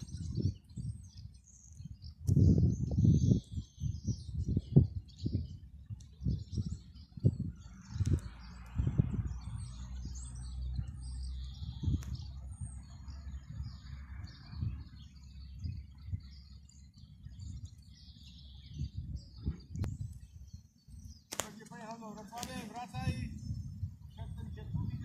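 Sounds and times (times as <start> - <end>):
small birds chirping: 0.0 - 25.0
wind rumble on microphone: 0.0 - 25.0.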